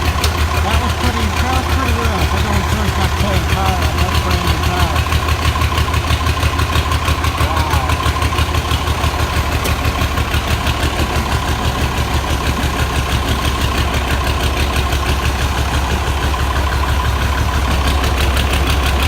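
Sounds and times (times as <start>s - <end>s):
diesel tractor engine idling: 0.0s - 19.0s.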